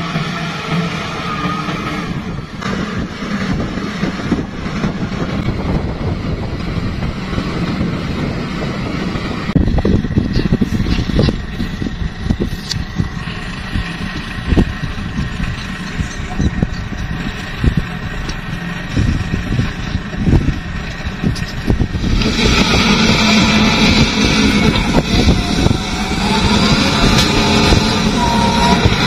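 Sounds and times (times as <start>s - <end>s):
wheel loader diesel engine: 0.0s - 29.0s
wind rumbling on microphone: 1.1s - 29.0s.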